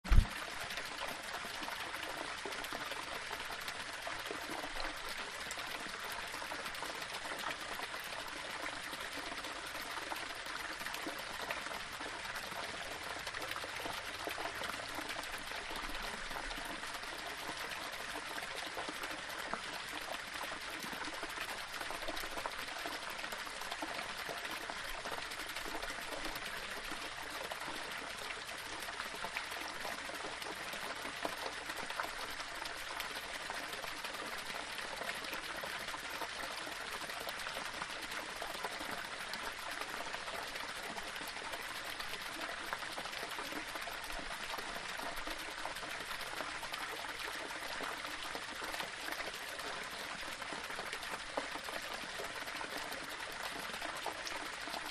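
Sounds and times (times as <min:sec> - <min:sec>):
waterfall splashing over rocks: 0:00.1 - 0:54.9.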